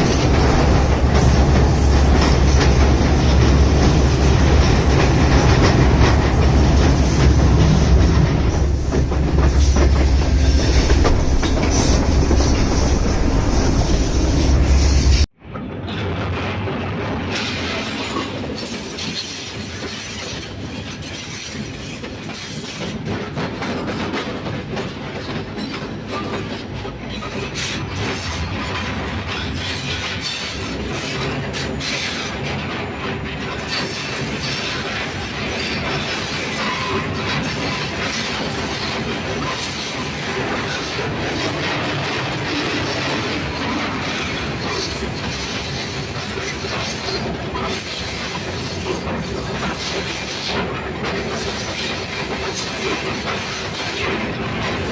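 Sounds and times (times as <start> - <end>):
clickety-clack of rails: 0.0 - 54.9
train wheels on track: 0.0 - 54.9.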